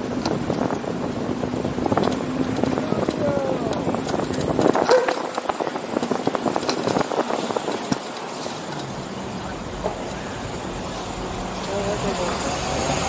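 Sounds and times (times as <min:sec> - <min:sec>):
background traffic: 0:00.0 - 0:13.0
wind and road noise: 0:00.0 - 0:13.0.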